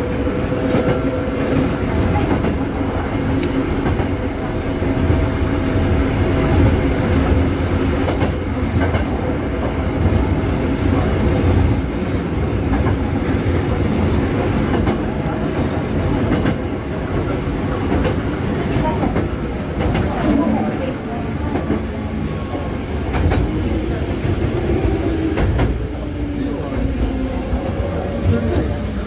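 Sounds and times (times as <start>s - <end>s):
rail joint clicks: 0.0s - 5.3s, 6.0s - 10.2s, 10.8s - 29.0s
train wheels rumbling on rail: 0.0s - 29.0s.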